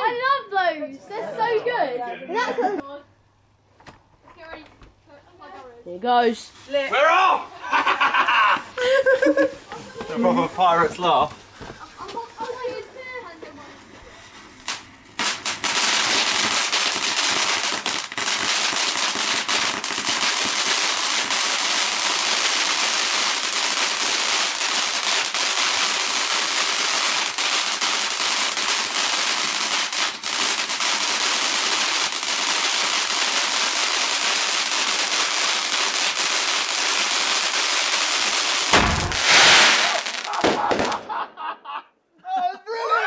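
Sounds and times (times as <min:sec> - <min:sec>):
firework crackling: 0:06.1 - 0:41.2.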